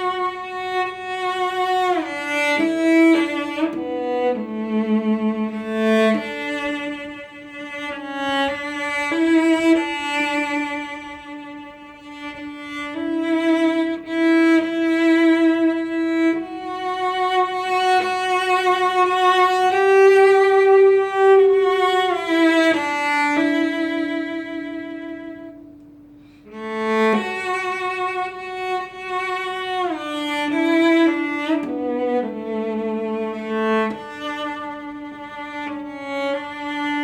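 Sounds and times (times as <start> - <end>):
bowed cello melody: 0.0 - 37.0.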